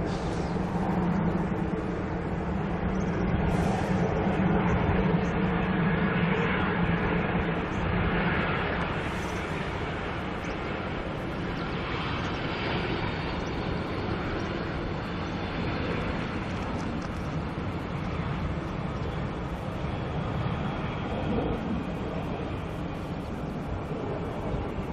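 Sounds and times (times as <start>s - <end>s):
faint high whine: 0.0s - 24.9s
jet engines roaring: 0.0s - 24.9s.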